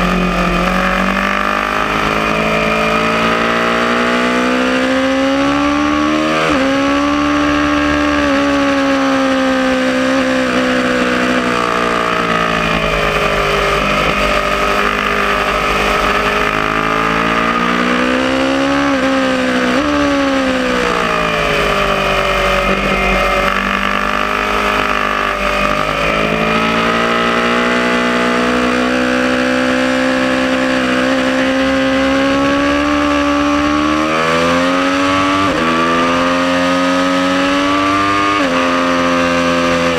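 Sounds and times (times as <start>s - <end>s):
motorcycle engine accelerating and braking: 0.0s - 39.9s.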